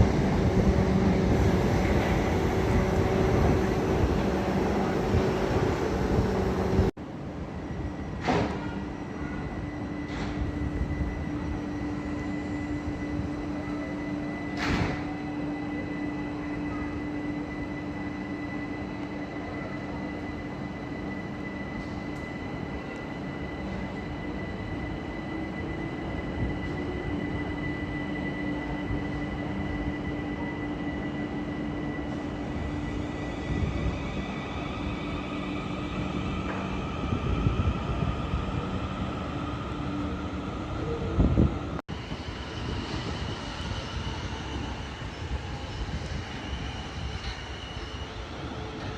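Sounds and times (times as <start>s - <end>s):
electric train hum: 0.0s - 48.9s.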